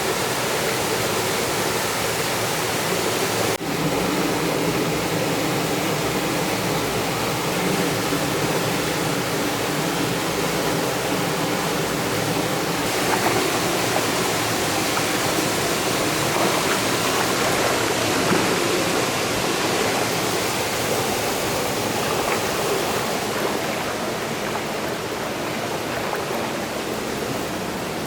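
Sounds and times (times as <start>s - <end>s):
water rushing through gorge: 0.0s - 28.0s.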